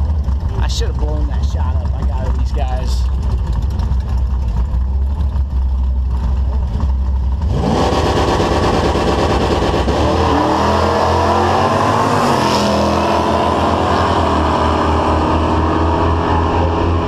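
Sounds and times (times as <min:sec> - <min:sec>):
drag car engines rumbling and revving: 0:00.0 - 0:17.0.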